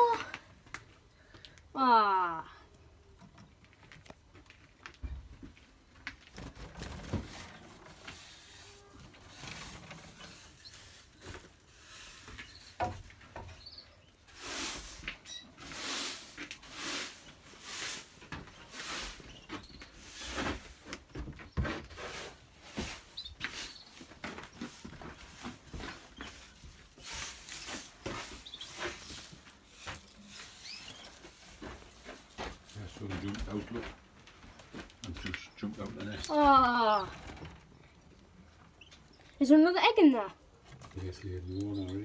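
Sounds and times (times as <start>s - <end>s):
rustling in bird cage: 3.1s - 39.3s.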